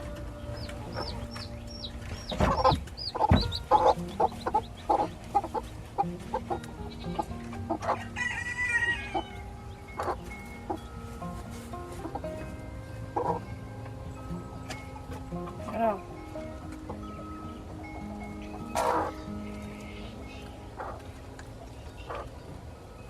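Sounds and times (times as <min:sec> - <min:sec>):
chicks peeping: 0:00.0 - 0:23.0
faint background music: 0:00.0 - 0:23.0
hens clucking: 0:00.0 - 0:23.0.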